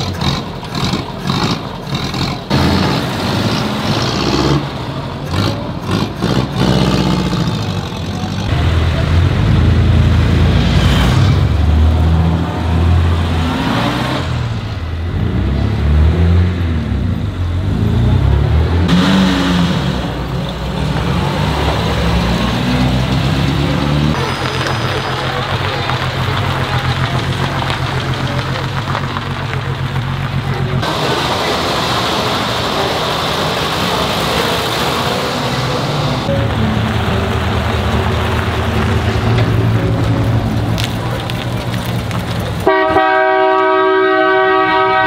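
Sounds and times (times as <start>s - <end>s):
cars driving past revving: 0.0s - 45.0s.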